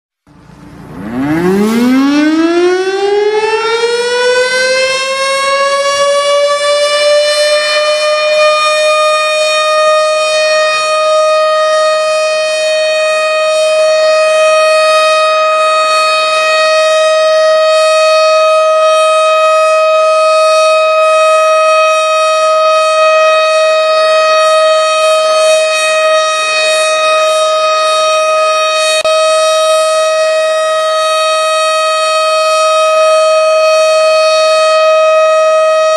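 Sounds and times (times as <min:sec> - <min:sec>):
civil defence siren: 0:00.3 - 0:35.9.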